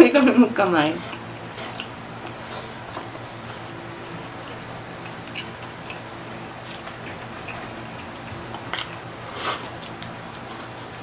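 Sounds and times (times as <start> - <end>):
low steady hum: 0.0 - 11.0
chewing and crunching food: 0.9 - 11.0.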